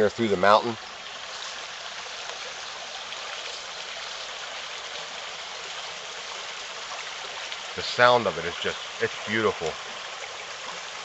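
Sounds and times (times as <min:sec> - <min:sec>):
stream flowing over rocks: 0:00.0 - 0:11.0.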